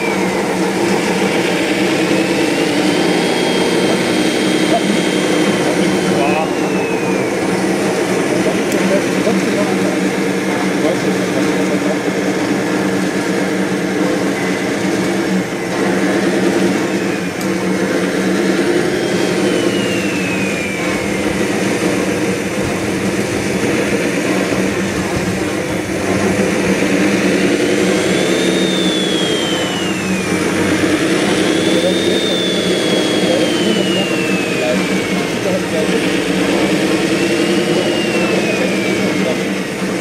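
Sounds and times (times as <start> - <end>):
model loader motor whine: 0.0 - 40.0.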